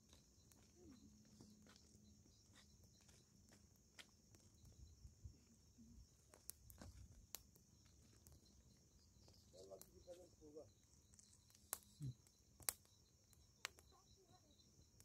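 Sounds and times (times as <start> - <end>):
fire crackles and pops: 0.0 - 15.0
low fire rumble: 0.0 - 15.0.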